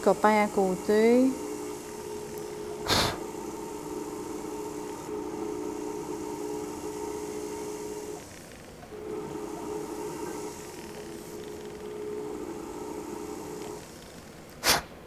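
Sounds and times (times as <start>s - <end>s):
rotary tool humming: 0.0s - 14.6s.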